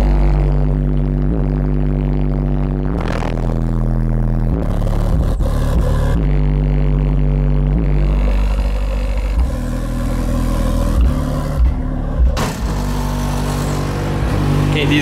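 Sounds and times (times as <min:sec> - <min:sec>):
heavy bass music through subwoofer: 0:00.0 - 0:15.0.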